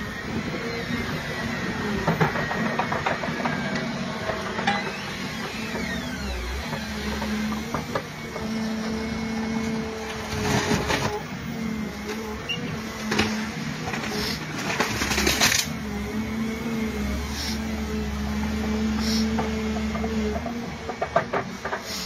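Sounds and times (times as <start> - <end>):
excavator engine and hydraulics: 0.0 - 22.0.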